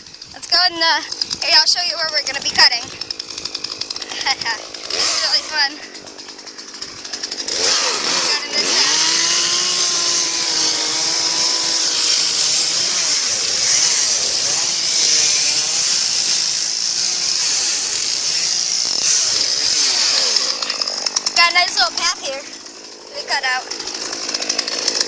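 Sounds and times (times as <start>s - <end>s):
chainsaw cutting: 0.0s - 25.0s.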